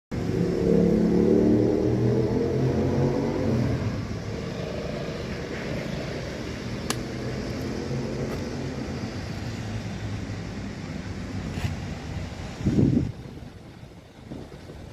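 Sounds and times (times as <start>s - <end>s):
vehicle engine running: 0.1s - 14.9s.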